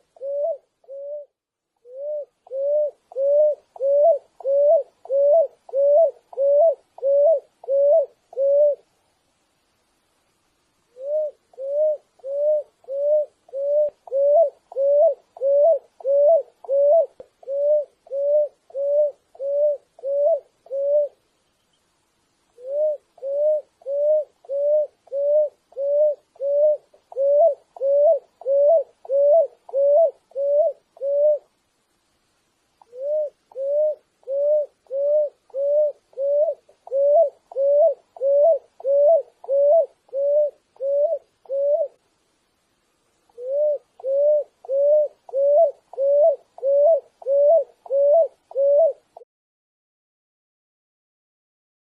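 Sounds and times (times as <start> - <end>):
dove cooing: 0.0 - 8.9, 10.9 - 21.2, 22.6 - 31.5, 32.8 - 42.0, 43.3 - 49.2.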